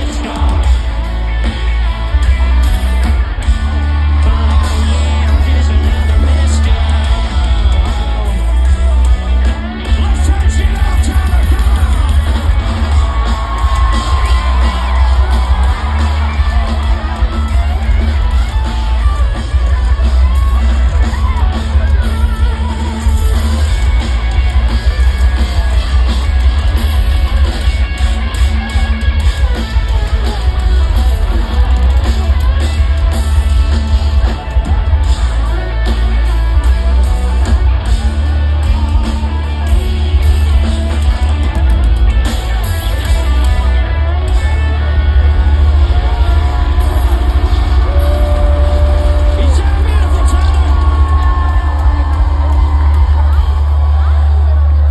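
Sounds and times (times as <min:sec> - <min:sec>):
crowd noise: 0:00.0 - 0:54.9
live country rock band: 0:00.0 - 0:54.9.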